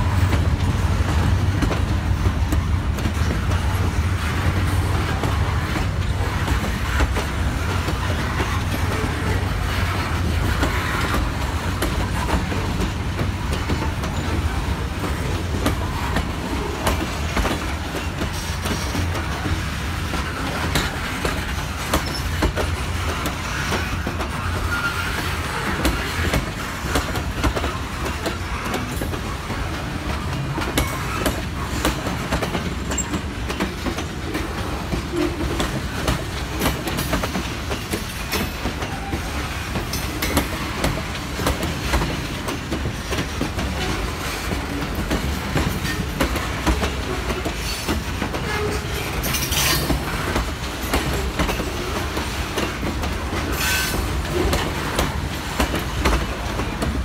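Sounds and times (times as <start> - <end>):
freight train rumbling past: 0.0 - 57.0
wheels clicking over rail joints: 0.0 - 57.0.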